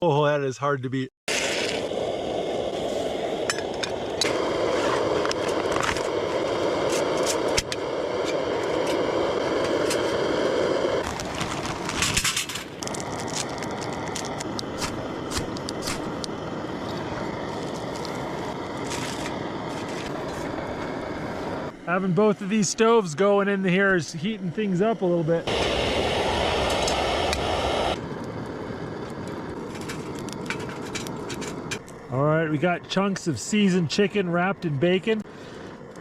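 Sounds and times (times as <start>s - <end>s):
crackling: 1.3s - 36.0s
steady rushing noise: 1.8s - 35.9s.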